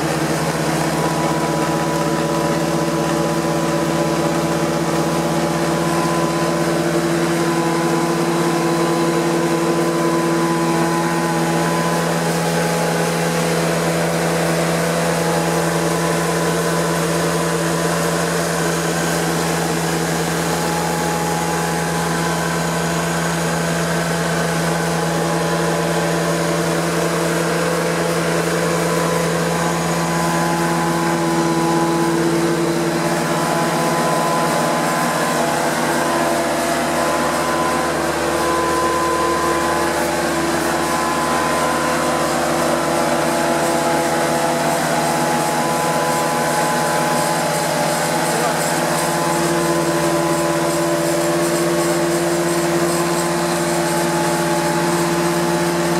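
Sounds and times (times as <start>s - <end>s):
carpet cleaning machine running: 0.0s - 55.9s.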